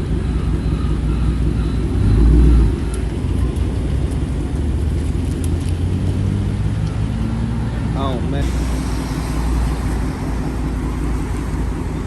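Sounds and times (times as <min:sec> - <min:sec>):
car exhaust rumbling: 0:00.0 - 0:12.0.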